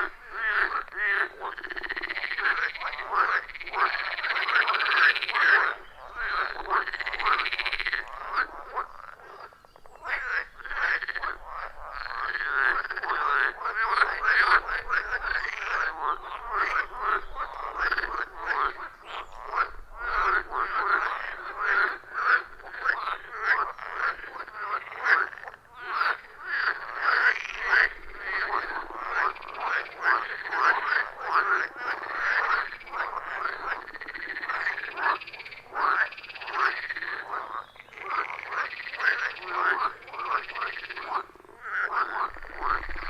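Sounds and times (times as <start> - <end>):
chorus of frogs croaking: 0.0 - 43.0.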